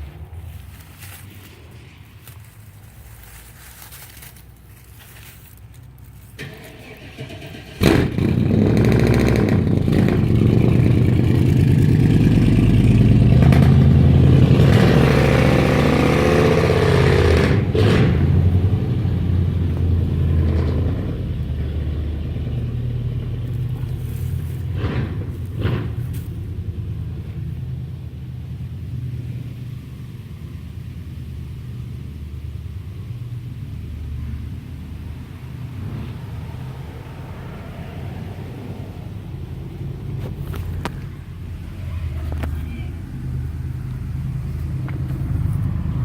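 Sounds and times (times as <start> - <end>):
truck engine starting and running: 0.0 - 46.0.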